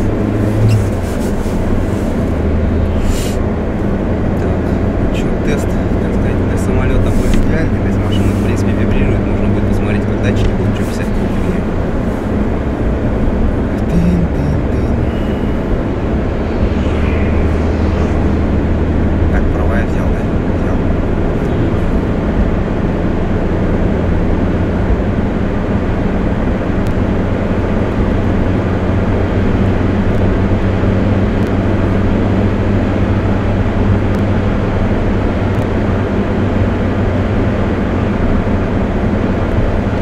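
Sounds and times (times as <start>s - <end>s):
car engine drone: 0.0s - 40.0s
tyre road noise: 0.0s - 40.0s.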